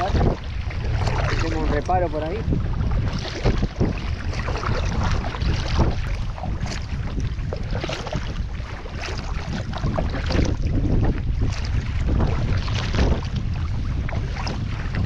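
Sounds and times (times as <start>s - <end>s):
paddle splashing in water: 0.0s - 15.0s
wind buffeting microphone: 0.0s - 15.0s.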